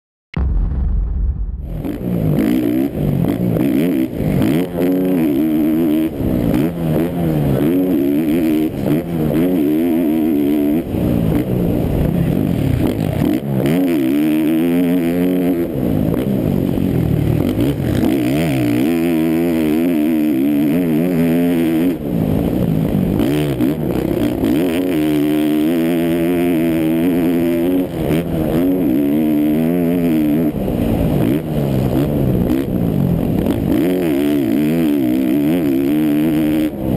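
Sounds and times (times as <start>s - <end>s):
motocross bike engine revving: 1.7s - 36.9s.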